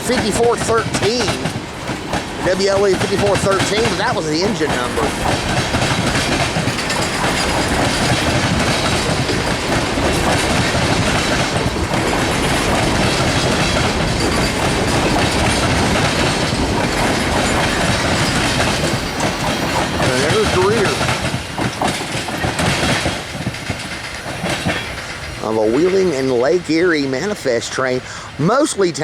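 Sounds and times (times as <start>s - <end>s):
train wheels clattering over crossing: 0.0s - 29.0s.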